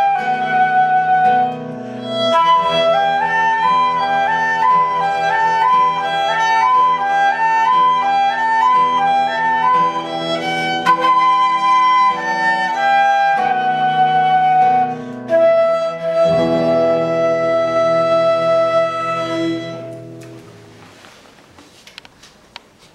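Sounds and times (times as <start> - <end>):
flute-like wind instrument melody: 0.0 - 20.2.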